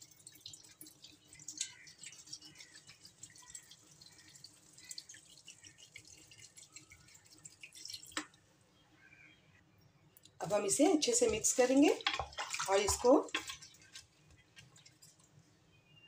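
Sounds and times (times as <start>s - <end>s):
water pouring into metal pot: 0.0s - 8.4s, 10.6s - 15.3s.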